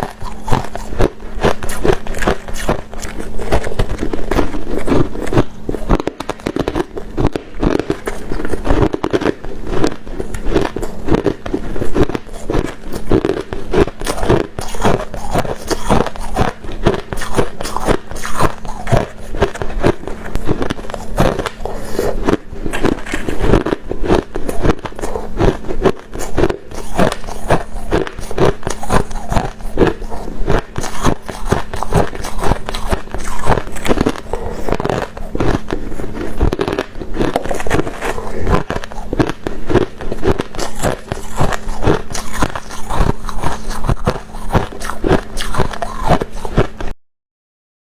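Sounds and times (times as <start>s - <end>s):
ice crunching as chewed: 0.0s - 46.9s.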